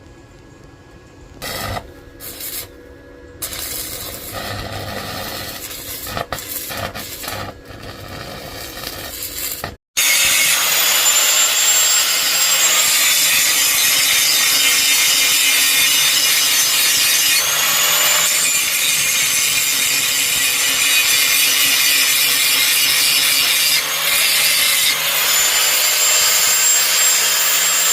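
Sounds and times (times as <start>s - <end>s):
electric grinder whining on steel: 1.4s - 2.7s, 3.4s - 27.9s.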